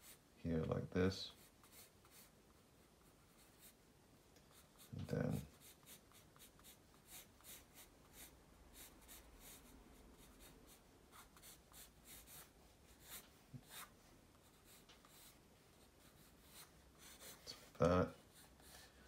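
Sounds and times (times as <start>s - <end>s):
pencil sketching on paper: 0.0s - 0.3s, 1.3s - 3.8s, 4.5s - 19.0s.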